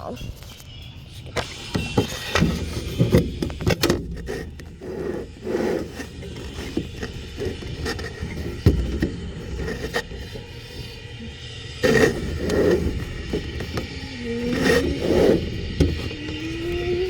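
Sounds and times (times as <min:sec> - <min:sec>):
scraping and rubbing handling noise: 0:00.1 - 0:17.0.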